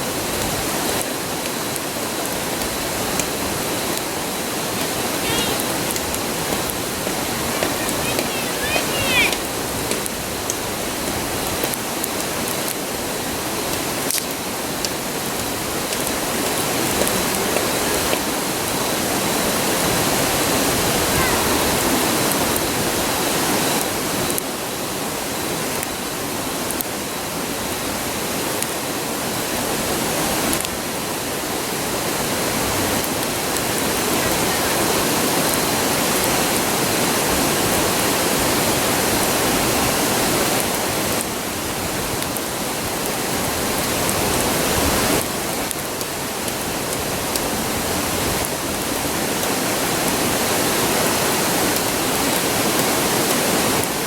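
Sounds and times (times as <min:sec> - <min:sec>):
campfire crackling: 0:00.0 - 0:54.0
river rushing: 0:00.0 - 0:54.0.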